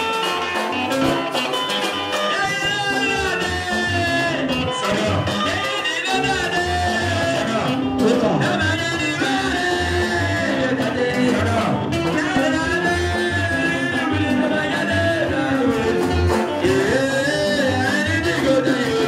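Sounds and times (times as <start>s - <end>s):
guitar: 0.0s - 19.0s
person singing: 2.1s - 19.0s.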